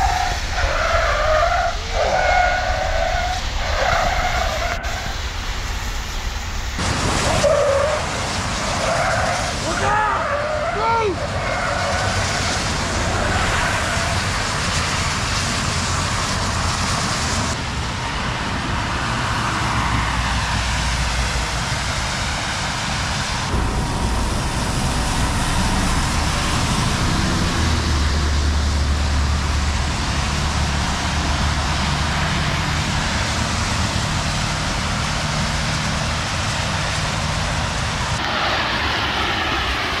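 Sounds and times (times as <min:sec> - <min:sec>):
engine rumble: 0:00.0 - 0:40.0
tyres hissing on wet road: 0:00.0 - 0:40.0.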